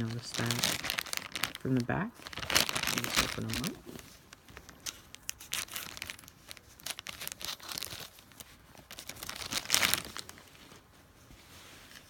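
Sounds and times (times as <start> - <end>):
plastic bag tearing and crinkling: 0.0 - 10.6.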